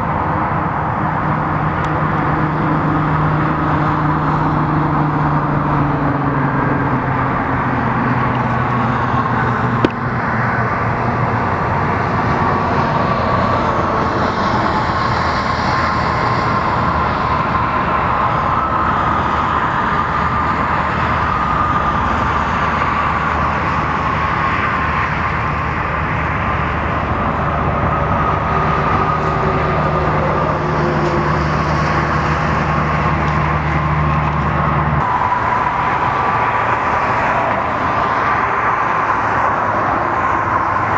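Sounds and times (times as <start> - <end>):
road traffic noise: 0.0 - 40.9.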